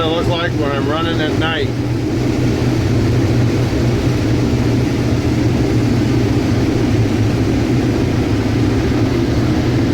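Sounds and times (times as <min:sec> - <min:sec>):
combine harvester droning: 0:00.0 - 0:09.9.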